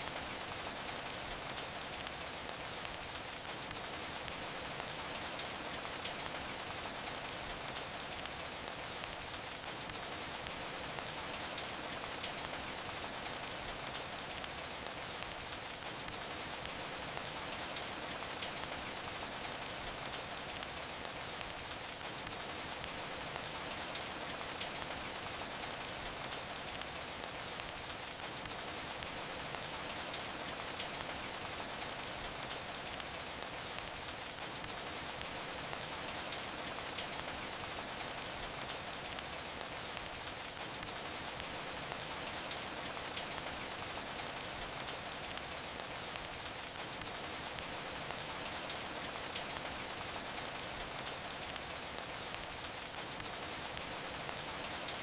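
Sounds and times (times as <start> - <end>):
steady rain hiss: 0.0 - 55.0
wood fire crackling: 0.0 - 55.0.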